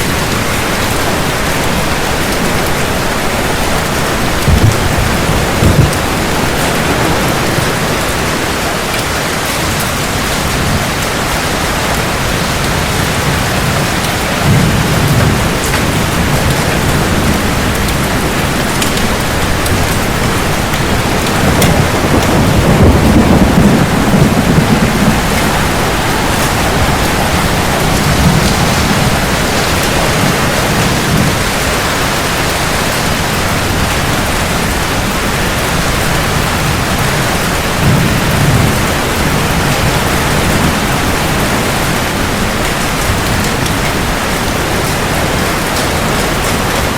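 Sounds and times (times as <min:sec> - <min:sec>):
heavy rain: 0:00.0 - 0:46.9
rolling thunder: 0:00.0 - 0:46.9.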